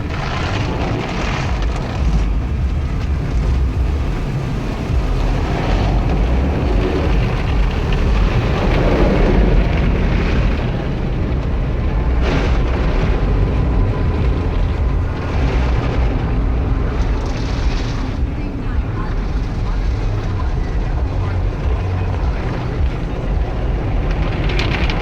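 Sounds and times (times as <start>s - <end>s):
car wash rushing rumble: 0.0s - 25.0s.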